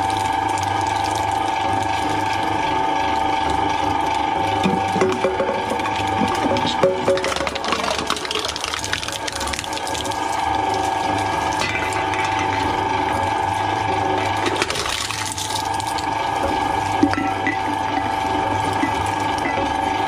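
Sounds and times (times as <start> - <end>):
shredder motor and gearbox whine: 0.0 - 20.0.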